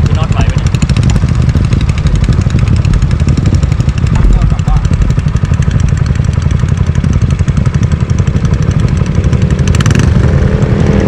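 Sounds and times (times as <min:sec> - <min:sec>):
wind buffeting microphone: 0:00.0 - 0:09.6
road noise: 0:00.0 - 0:11.0
scooter engine: 0:00.0 - 0:11.0.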